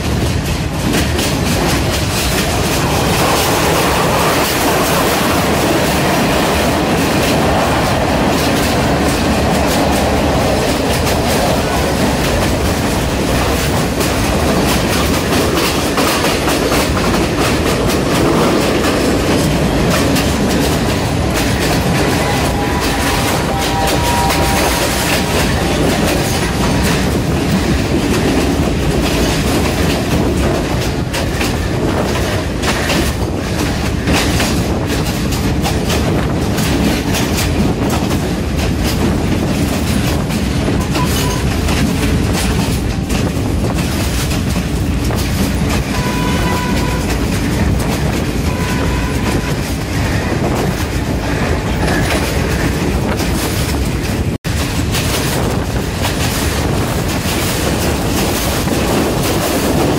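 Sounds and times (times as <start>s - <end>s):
train rumble and air rush: 0.0s - 59.9s
wheels clattering over rails: 0.0s - 59.9s.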